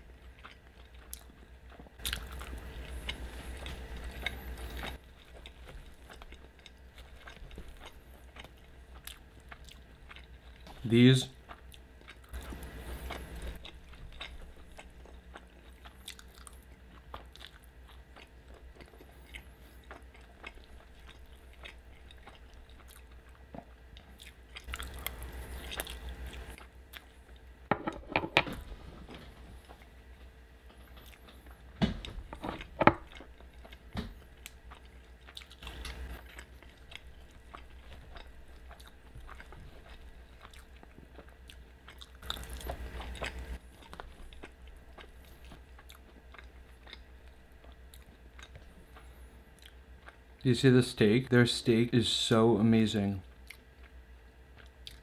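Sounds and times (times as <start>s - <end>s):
chewing and wet mouth sounds: 0.0s - 27.7s, 29.0s - 31.7s, 32.3s - 50.5s, 53.2s - 55.0s.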